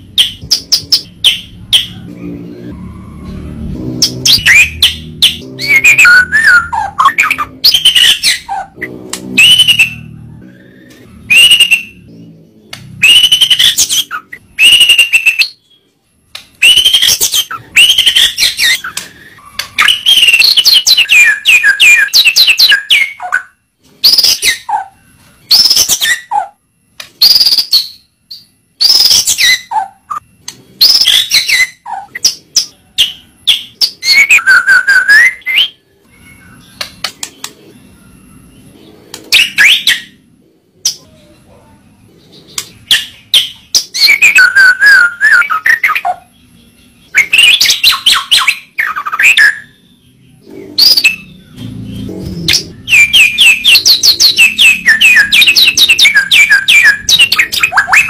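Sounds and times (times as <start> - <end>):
songbird whistling and trilling: 0.1 - 2.0, 4.0 - 8.8, 9.4 - 12.1, 12.7 - 38.7, 39.3 - 40.2, 42.3 - 51.7, 52.5 - 58.0.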